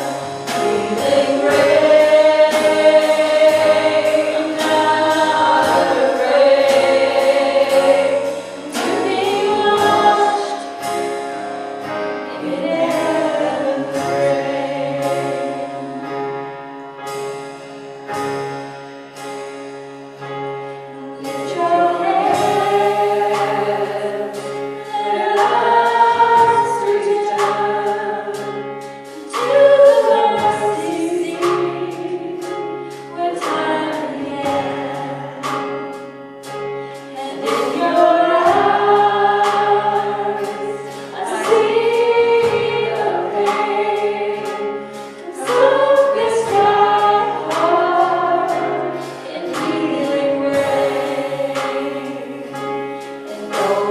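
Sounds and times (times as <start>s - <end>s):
choir singing: 0.0s - 11.2s, 12.2s - 16.5s, 20.9s - 28.6s, 29.2s - 35.7s, 37.1s - 53.9s
instrumental accompaniment with beat: 0.0s - 53.9s.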